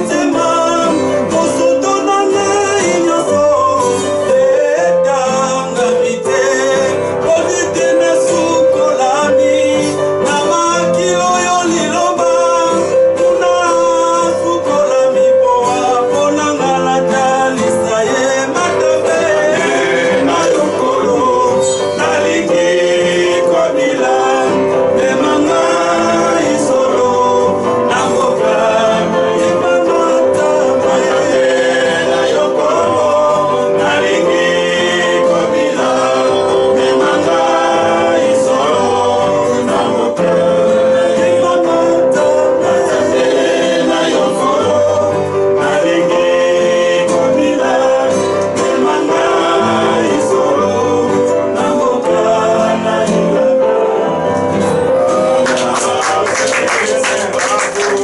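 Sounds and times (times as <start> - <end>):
acoustic guitar strumming: 0.0 - 58.0
man singing: 0.0 - 58.0.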